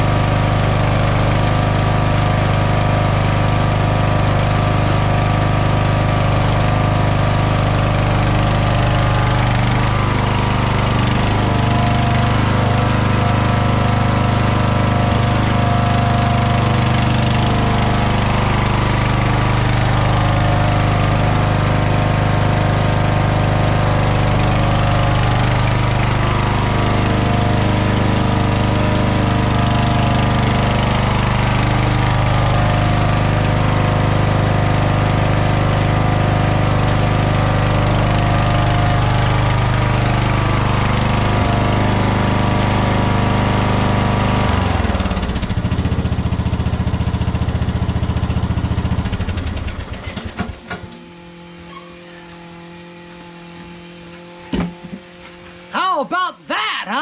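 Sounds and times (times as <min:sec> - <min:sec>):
lawn tractor engine running: 0:00.0 - 0:56.1.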